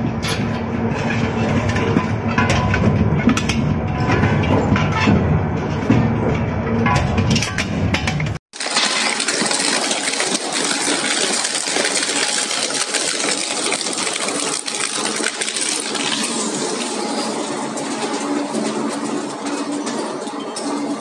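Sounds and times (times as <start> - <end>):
industrial shredder clattering: 0.1 - 21.0.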